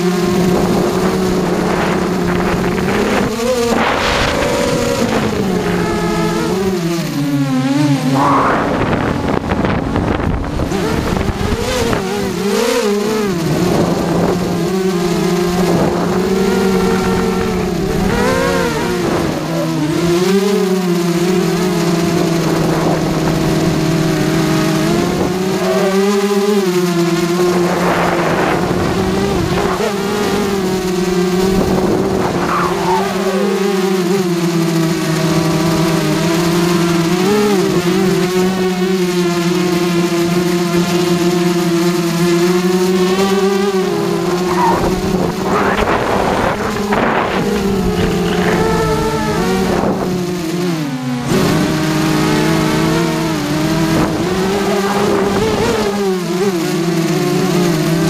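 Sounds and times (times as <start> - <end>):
quadcopter motors buzzing: 0.0 - 58.0.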